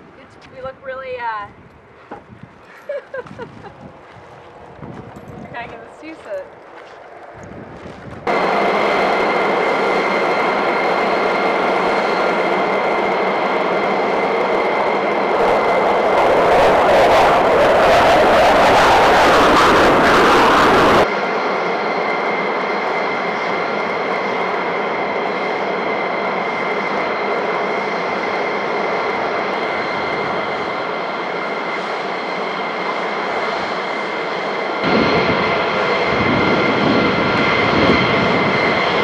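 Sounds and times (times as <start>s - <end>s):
jet engines turbine whine: 0.0s - 39.0s.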